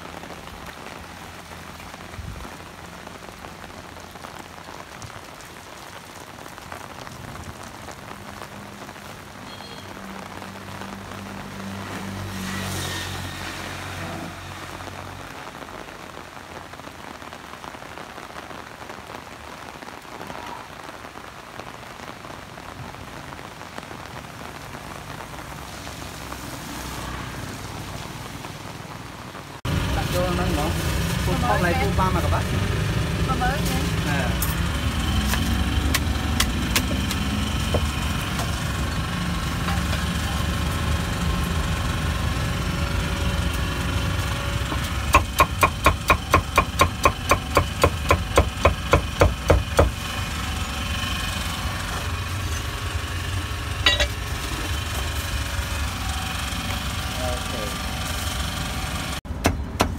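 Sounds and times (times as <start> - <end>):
heavy rain on a flooded street: 0.0 - 59.3.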